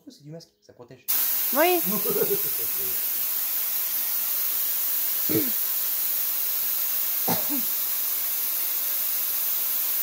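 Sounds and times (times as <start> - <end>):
airbrush spraying hiss: 1.1 - 10.0.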